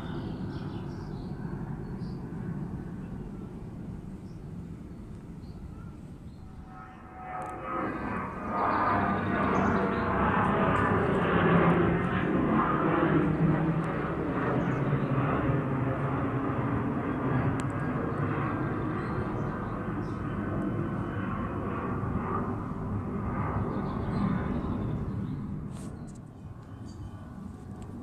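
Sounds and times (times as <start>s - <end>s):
jet airliner engine rumble: 0.0s - 28.0s.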